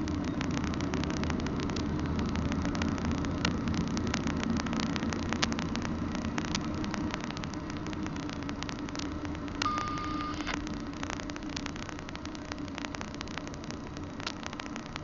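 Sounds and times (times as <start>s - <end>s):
low rumble of car and train: 0.0s - 15.0s.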